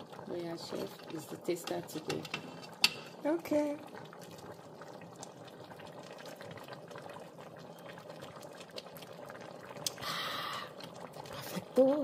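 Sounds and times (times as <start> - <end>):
soup bubbling and popping: 0.0 - 12.0.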